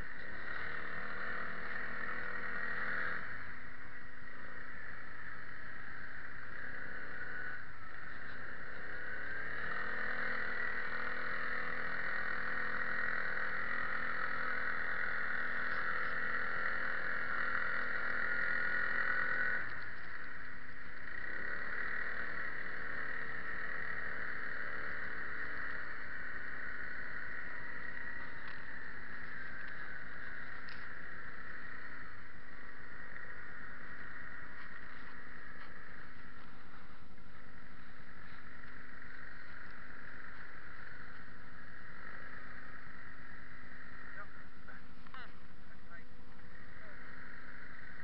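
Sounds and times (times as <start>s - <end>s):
atv engine running: 0.0s - 48.0s.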